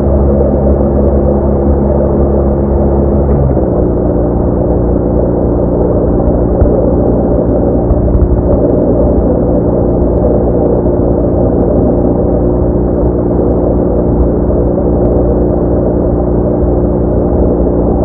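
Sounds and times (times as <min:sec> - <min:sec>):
motorcycle engine droning: 0:00.0 - 0:18.0
wind and road noise: 0:00.0 - 0:18.0.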